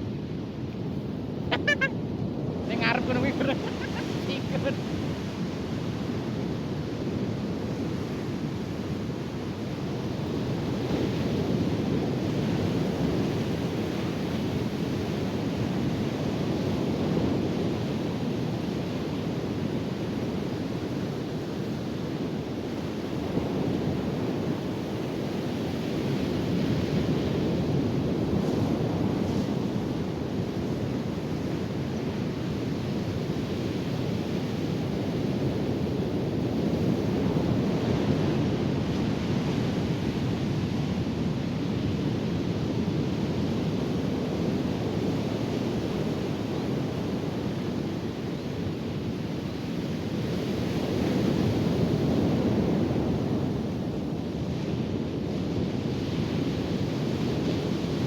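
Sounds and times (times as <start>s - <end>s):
ocean surf on beach: 0.0s - 58.0s.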